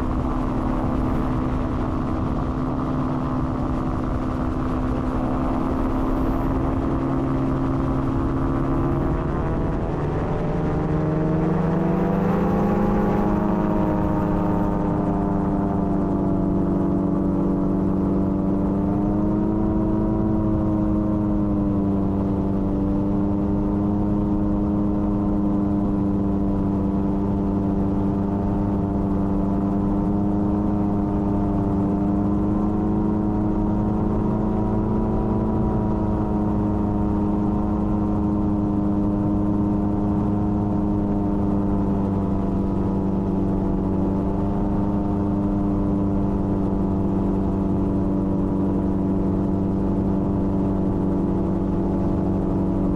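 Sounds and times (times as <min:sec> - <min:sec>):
aircraft engine and propeller: 0:00.0 - 0:52.9.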